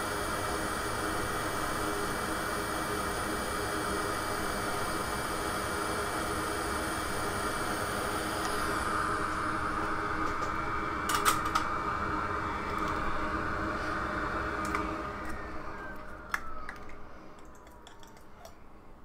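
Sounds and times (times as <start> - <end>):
hot air blower whining: 0.0 - 17.4.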